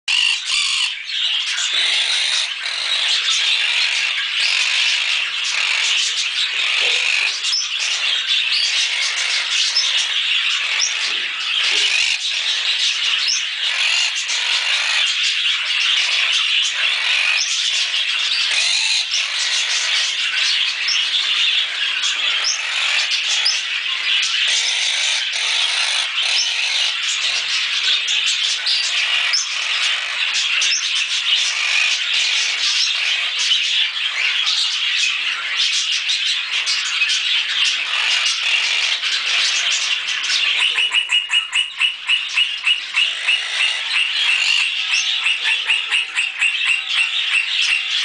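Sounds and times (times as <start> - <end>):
parakeets squawking: 0.1 - 48.0.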